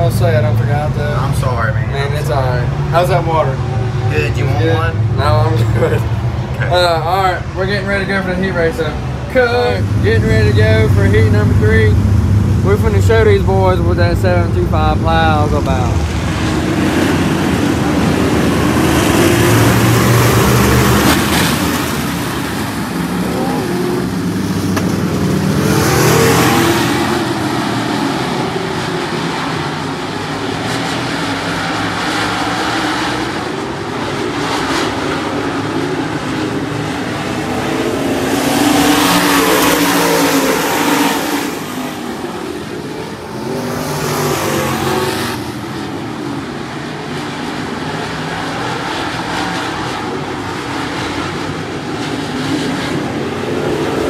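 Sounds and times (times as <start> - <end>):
race cars racing past: 0.0 - 54.0.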